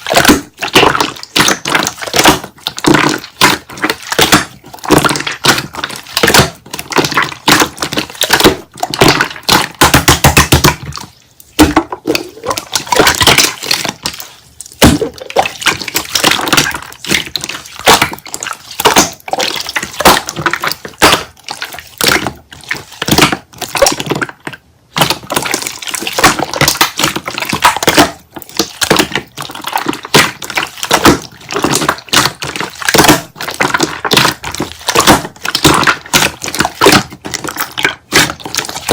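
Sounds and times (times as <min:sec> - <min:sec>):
slime squeezed with wet pops: 0:00.0 - 0:38.9.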